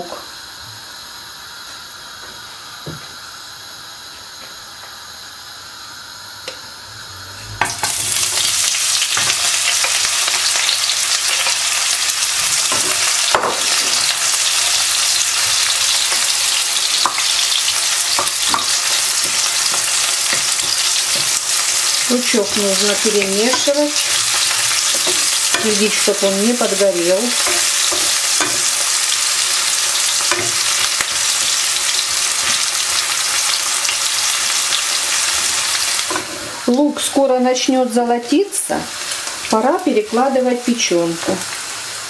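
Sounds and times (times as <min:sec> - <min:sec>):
onion sizzling in oil: 0:00.0 - 0:42.0.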